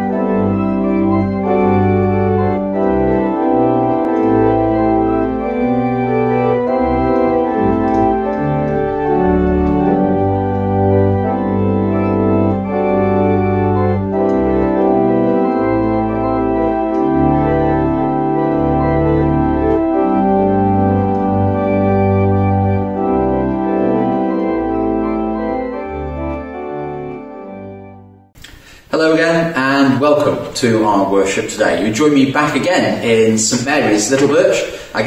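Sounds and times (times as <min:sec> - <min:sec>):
organ playing slow chords: 0:00.0 - 0:28.8.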